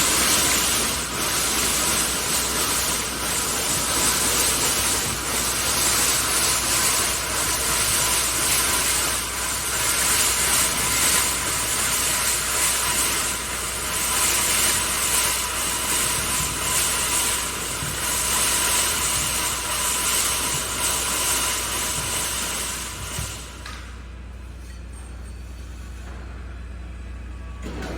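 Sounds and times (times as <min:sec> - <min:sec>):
welding machine hissing: 0:00.0 - 0:23.6.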